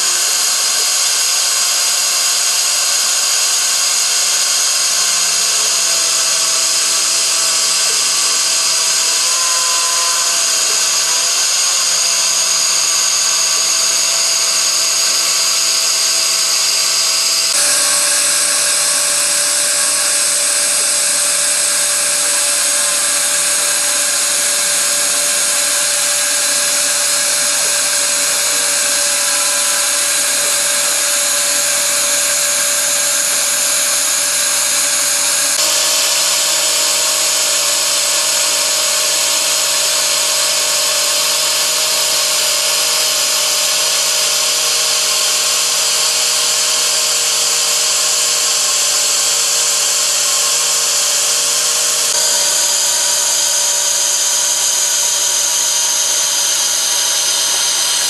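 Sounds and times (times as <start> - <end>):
milling spindle motor whining: 0.0 - 58.0.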